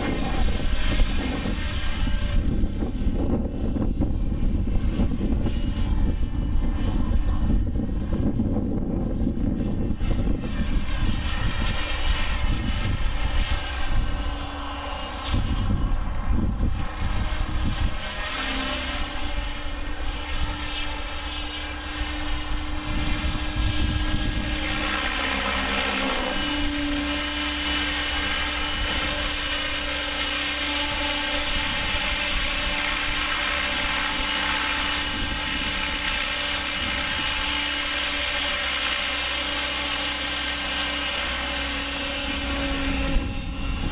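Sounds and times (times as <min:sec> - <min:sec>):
model helicopter rotor whine: 0:00.0 - 0:43.9
wind buffeting microphone: 0:00.0 - 0:43.9.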